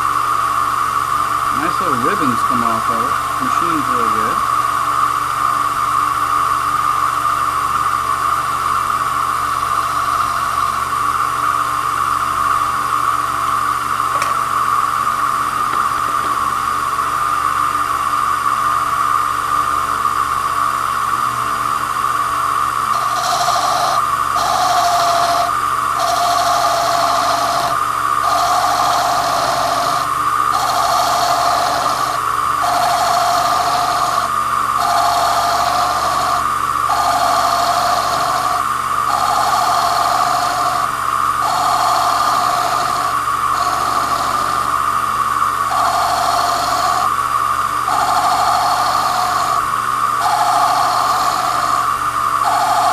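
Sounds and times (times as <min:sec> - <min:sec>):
lathe motor running: 0:00.0 - 0:18.3, 0:19.7 - 0:52.9.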